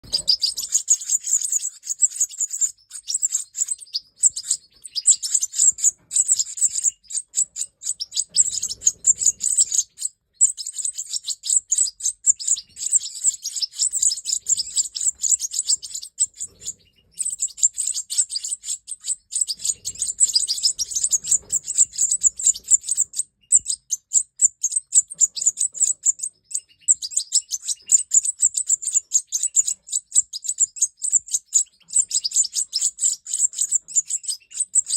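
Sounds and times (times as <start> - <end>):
goldfinches twittering song: 0.0 - 34.9.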